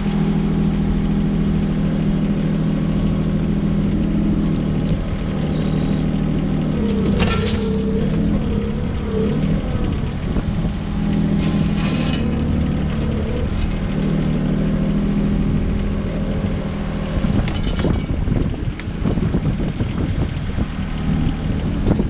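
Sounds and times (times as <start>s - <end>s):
machinery engine running: 0.0s - 22.0s.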